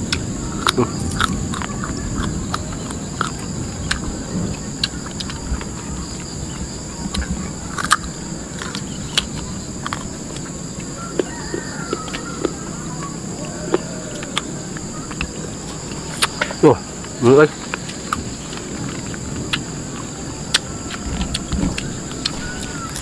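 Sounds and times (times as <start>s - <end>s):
crunchy fruit chewing: 0.0s - 23.0s
high insect drone: 0.0s - 23.0s.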